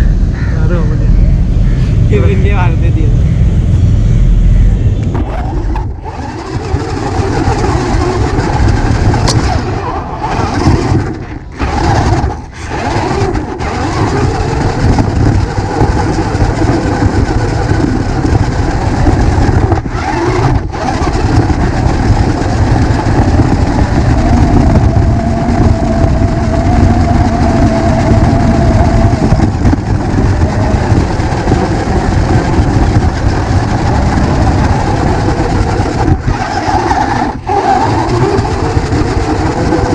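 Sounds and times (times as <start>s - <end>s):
vehicle running noise: 0.0s - 39.9s.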